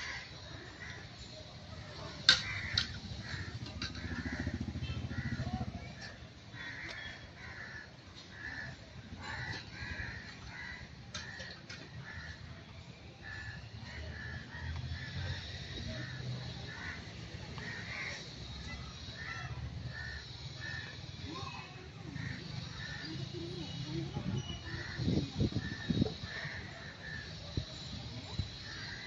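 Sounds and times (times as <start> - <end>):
birds calling harshly: 0.0 - 29.0.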